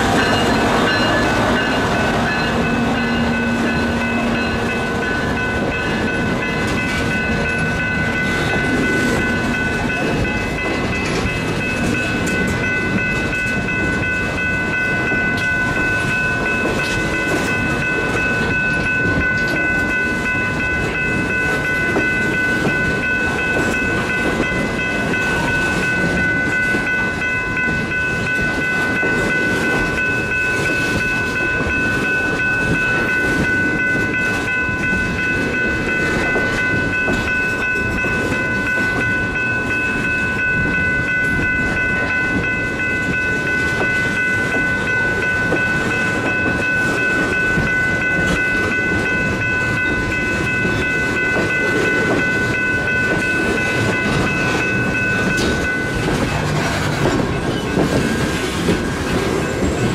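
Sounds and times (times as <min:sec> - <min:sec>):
train rolling past rumbling: 0:00.0 - 0:59.9.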